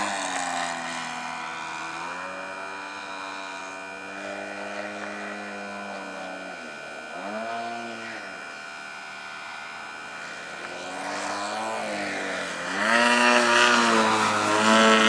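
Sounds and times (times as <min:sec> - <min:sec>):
model plane motor and propeller: 0:00.0 - 0:15.0.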